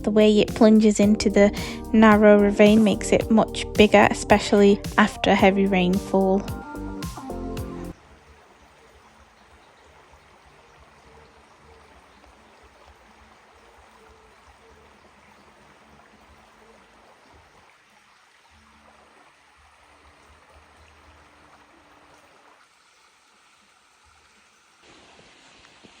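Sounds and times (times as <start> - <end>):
stream water running: 0.0 - 26.0.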